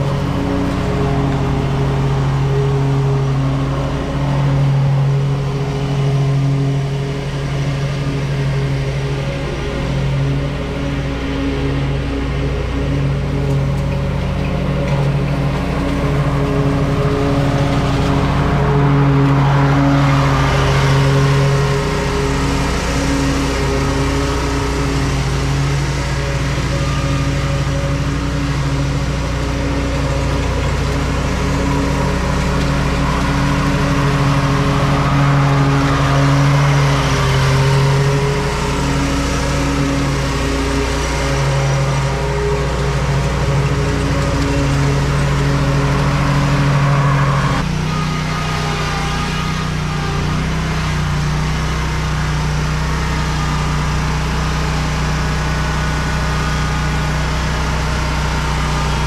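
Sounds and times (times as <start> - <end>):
lawn mower cutting grass: 0.0 - 59.0.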